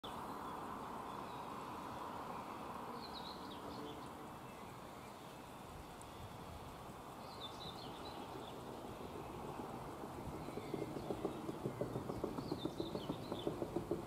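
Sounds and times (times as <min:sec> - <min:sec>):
outdoor background hiss: 0:00.0 - 0:14.0
songbird chirping: 0:00.0 - 0:14.0.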